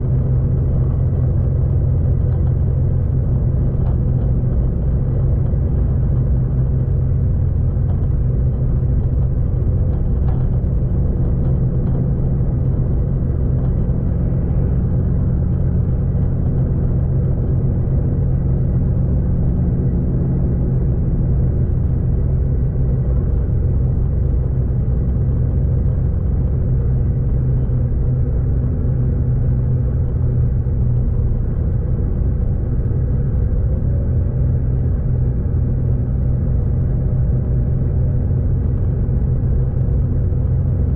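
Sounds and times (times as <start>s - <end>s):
passenger train rumbling: 0.0s - 40.9s.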